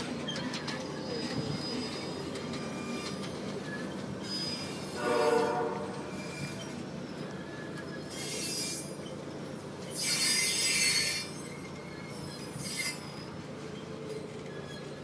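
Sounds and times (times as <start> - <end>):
train cars rumbling past: 0.0 - 15.0.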